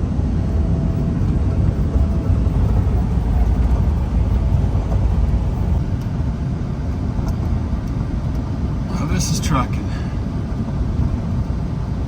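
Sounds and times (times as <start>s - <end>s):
diesel truck engine rumble: 0.0s - 12.0s
road noise: 0.0s - 12.0s.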